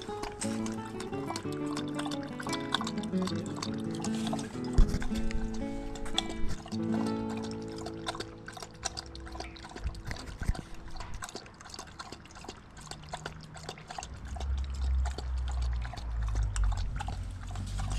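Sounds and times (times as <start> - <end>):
dog lapping water: 0.0 - 17.9.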